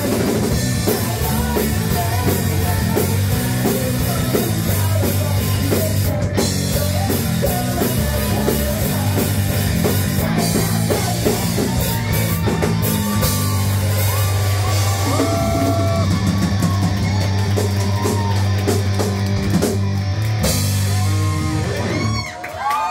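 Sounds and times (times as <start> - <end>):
person singing: 0.0 - 18.5
bass guitar: 0.0 - 22.4
drum kit: 0.0 - 22.4
electric guitar: 0.0 - 22.7.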